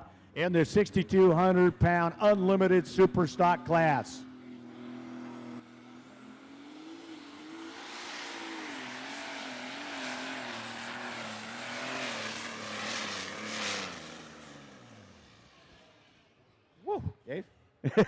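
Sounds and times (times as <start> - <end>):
pulling tractor engine revving: 0.9 - 16.1.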